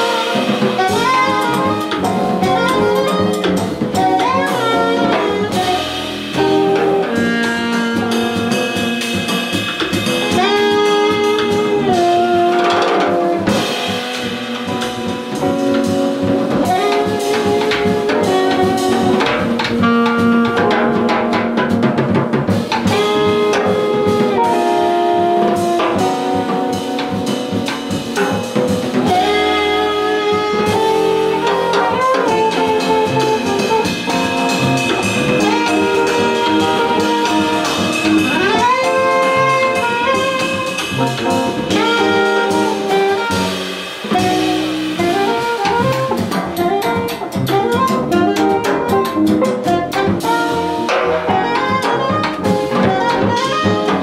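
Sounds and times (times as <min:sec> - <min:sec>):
alto saxophone melody: 0:00.0 - 0:54.0
double bass: 0:00.0 - 0:54.0
drums and cymbals: 0:00.0 - 0:54.0
electric guitar: 0:00.0 - 0:54.0.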